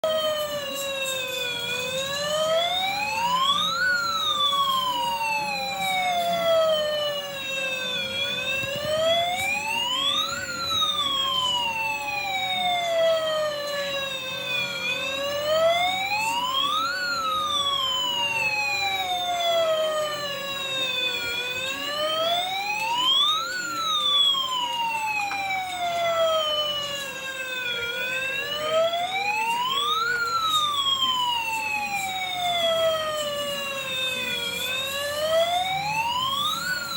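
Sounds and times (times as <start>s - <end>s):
fire truck siren wailing: 0.0s - 36.9s.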